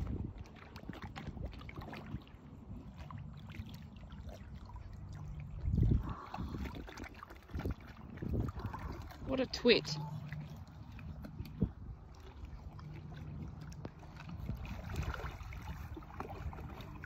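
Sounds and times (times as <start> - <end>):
surge of water: 0.0 - 17.0
water sloshing around wading horse: 0.0 - 17.0.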